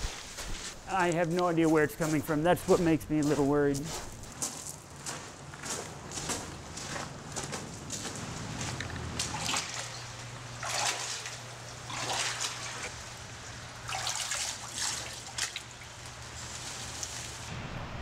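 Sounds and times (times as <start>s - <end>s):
footsteps splashing through water: 0.0s - 17.4s
steady low hum: 0.0s - 18.0s.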